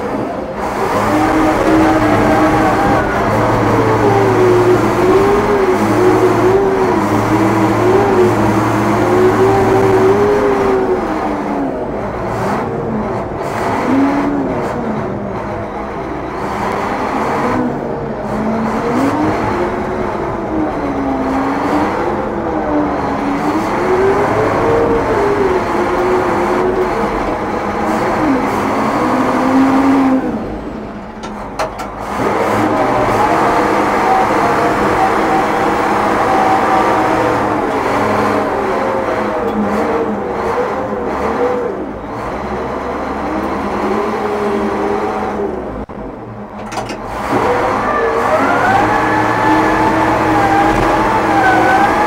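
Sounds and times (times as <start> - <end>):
bulldozer diesel engine: 0.0 - 52.0
whining tones: 0.0 - 52.0.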